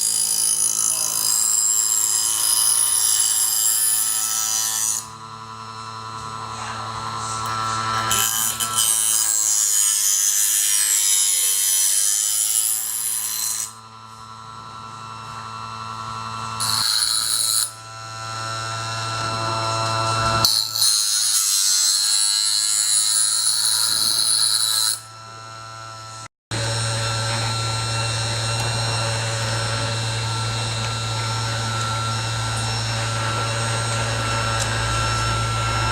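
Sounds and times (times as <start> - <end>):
sharpening machine motor hum: 0.0 - 35.9.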